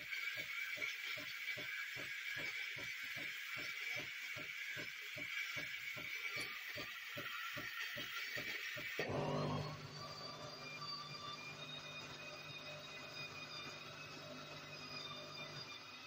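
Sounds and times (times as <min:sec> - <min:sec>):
steam hissing from coffee machine: 0:00.0 - 0:16.0.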